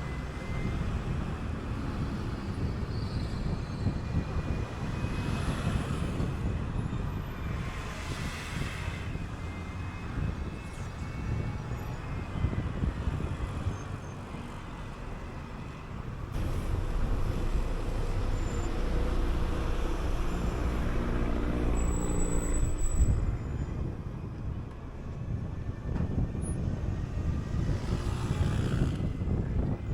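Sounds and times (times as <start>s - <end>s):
bus engine: 0.0s - 29.9s
road rumble: 5.6s - 29.9s.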